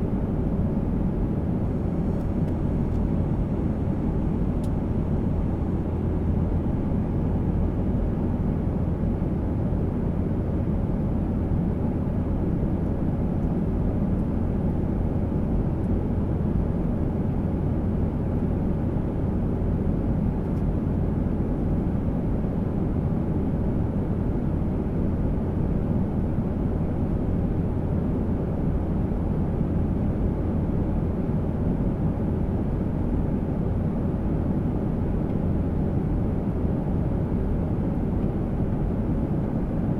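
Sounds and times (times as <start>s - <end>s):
airliner engines and rushing air: 0.0s - 39.9s.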